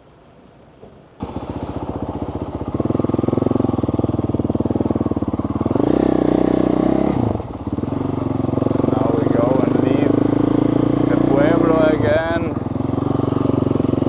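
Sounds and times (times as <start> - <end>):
dirt bike engine running: 1.2 - 14.0.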